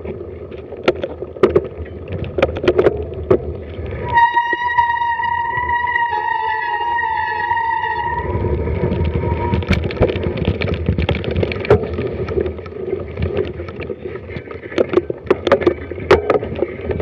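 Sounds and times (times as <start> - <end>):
bike rattling and knocking: 0.0 - 17.0
bike tyre noise on trail: 0.0 - 17.0
wind on microphone: 0.0 - 17.0.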